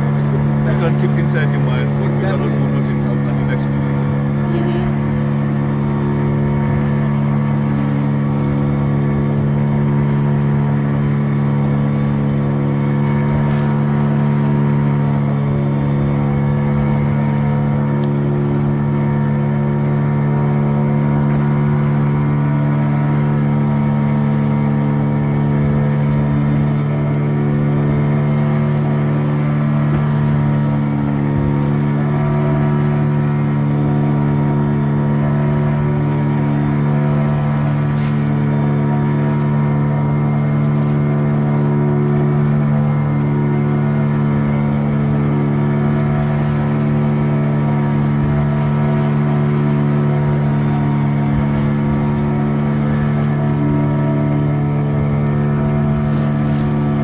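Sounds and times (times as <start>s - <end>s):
outboard motor running: 0.0s - 57.0s
water rushing along hull: 0.0s - 57.0s.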